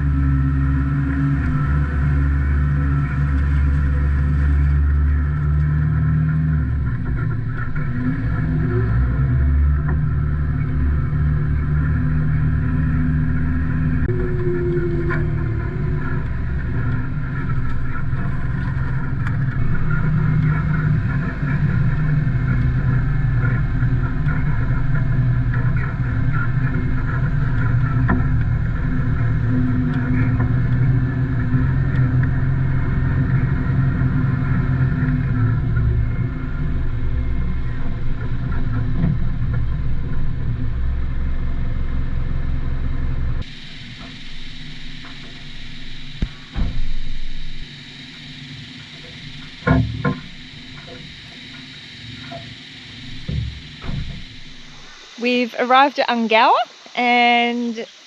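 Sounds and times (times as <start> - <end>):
truck diesel engine running: 0.0 - 56.6.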